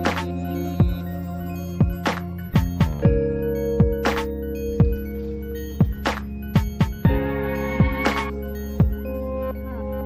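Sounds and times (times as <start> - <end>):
synth chords: 0.0 - 10.0.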